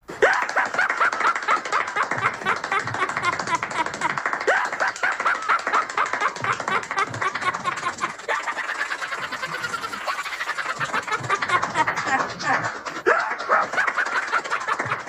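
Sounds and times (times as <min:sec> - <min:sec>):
animal chucking calls: 0:01.8 - 0:15.0.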